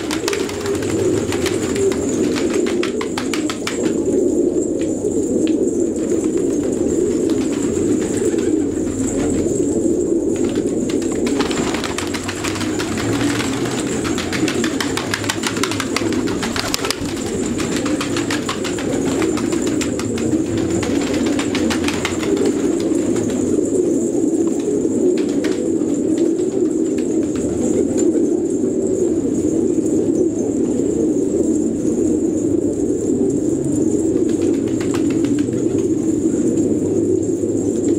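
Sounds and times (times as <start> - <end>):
rapid clicks and flutters: 0.0 - 28.2, 34.0 - 36.7
pigeons cooing: 0.0 - 37.9.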